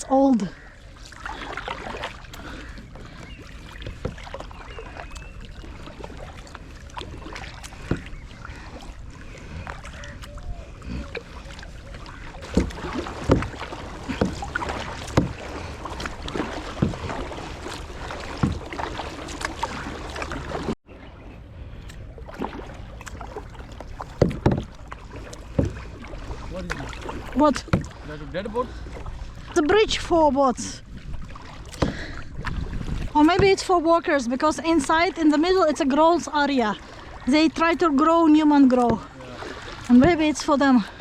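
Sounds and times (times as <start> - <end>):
water wash: 0.0 - 20.8, 21.8 - 41.0
paddle splashing: 0.0 - 41.0.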